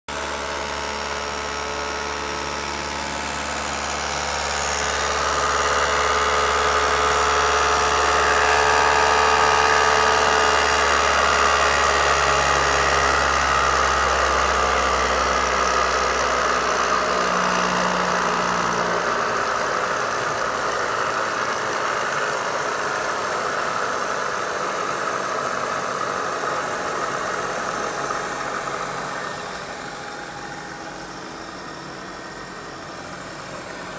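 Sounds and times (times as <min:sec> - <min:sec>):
milling machine whirring: 0:00.1 - 0:33.9.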